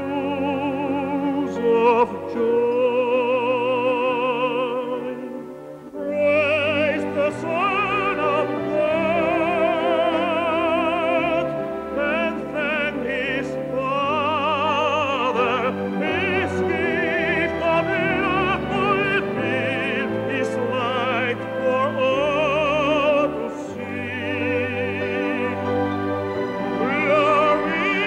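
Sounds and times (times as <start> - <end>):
operatic singing: 0.0 - 28.0
orchestra playing: 0.0 - 28.0.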